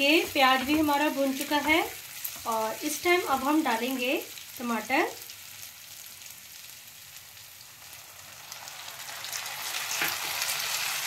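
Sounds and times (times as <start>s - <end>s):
onions frying with crackling sizzle: 0.0s - 11.0s.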